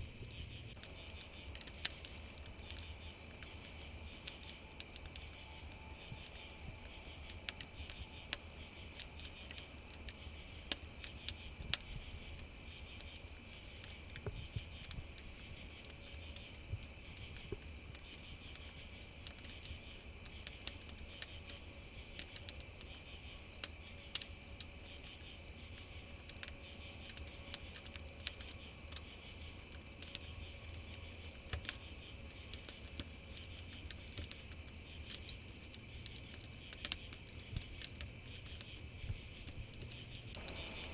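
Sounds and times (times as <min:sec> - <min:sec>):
campfire crackling and popping: 0:00.0 - 0:40.9
crickets chirring: 0:00.0 - 0:40.9.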